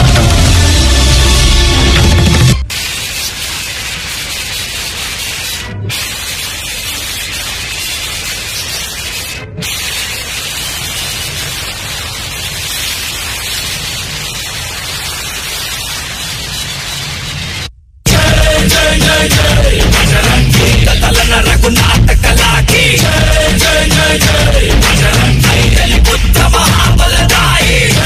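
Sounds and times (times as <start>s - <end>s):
steady static hiss: 2.6s - 28.0s.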